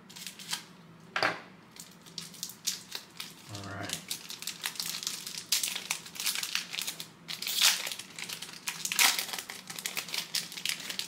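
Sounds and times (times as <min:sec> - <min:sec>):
foil wrapper crinkling and tearing: 0:00.1 - 0:00.7, 0:01.8 - 0:11.0.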